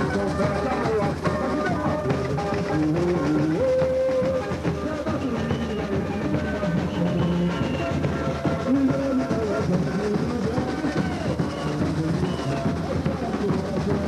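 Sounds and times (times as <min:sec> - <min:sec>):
samba drums and percussion: 0:00.0 - 0:14.0.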